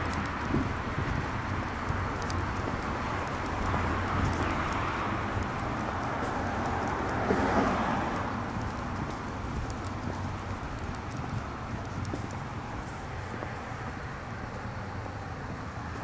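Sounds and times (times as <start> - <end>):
footsteps on pavement: 0.0 - 16.0
street traffic: 0.0 - 16.0.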